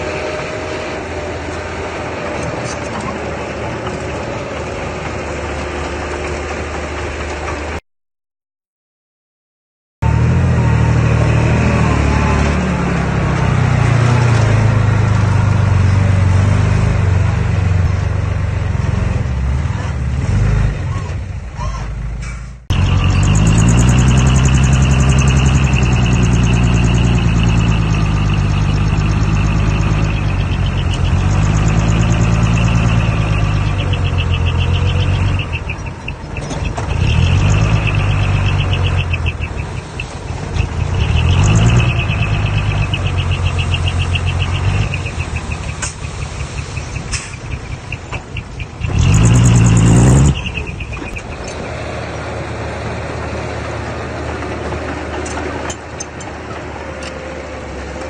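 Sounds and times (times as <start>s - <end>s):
diesel engine of heavy machine: 0.0s - 7.8s, 10.0s - 58.0s.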